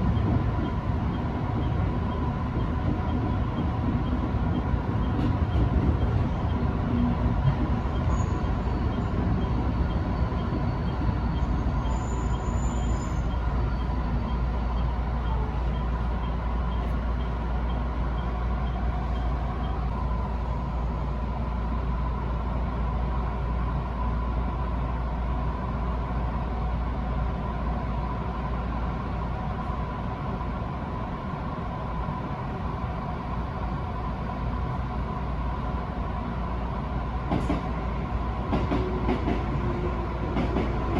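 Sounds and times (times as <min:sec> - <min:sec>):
train wheels and motors rumble: 0:00.0 - 0:40.9.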